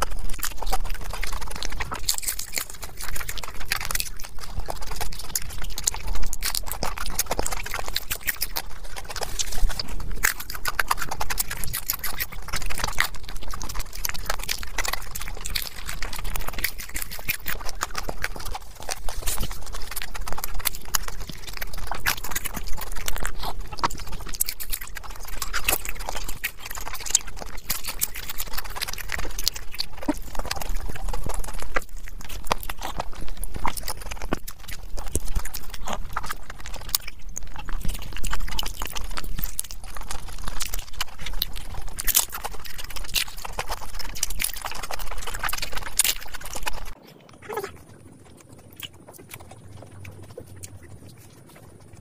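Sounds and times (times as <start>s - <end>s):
crunchy chewing: 0.0s - 52.0s
mouth clicks: 0.0s - 52.0s.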